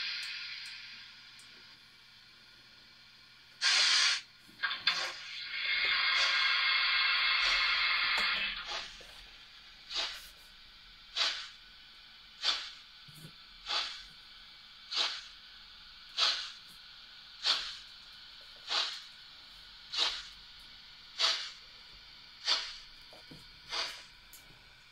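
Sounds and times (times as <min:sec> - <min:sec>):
model steam locomotive hisses: 0:00.0 - 0:01.4, 0:03.6 - 0:24.9.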